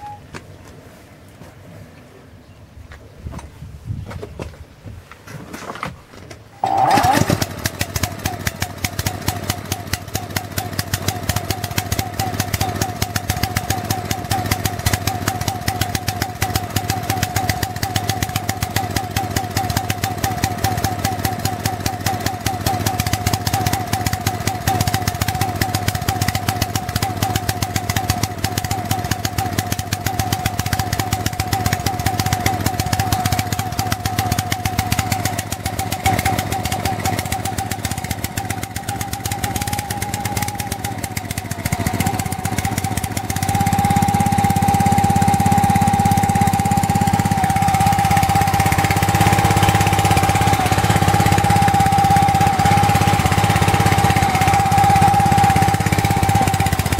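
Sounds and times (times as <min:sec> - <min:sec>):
small petrol engine running: 0:06.6 - 0:56.9.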